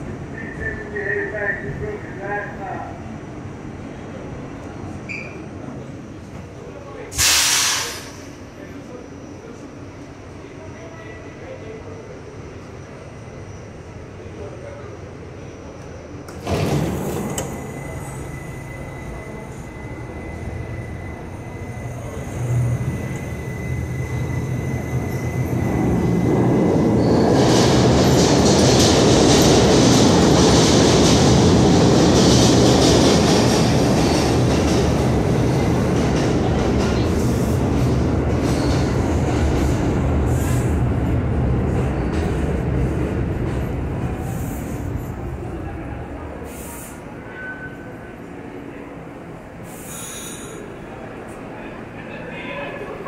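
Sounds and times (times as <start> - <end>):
subway train rumbling on rails: 0.0 - 53.0.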